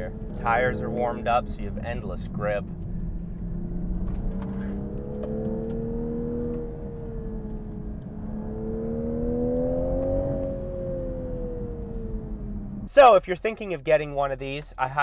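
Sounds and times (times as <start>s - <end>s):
car engine accelerating: 0.0s - 13.0s
tyre and road rumble: 0.0s - 13.0s.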